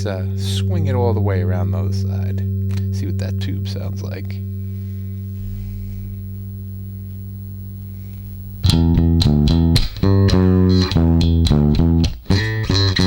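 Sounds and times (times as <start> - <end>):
bass guitar playing: 0.0 - 13.0.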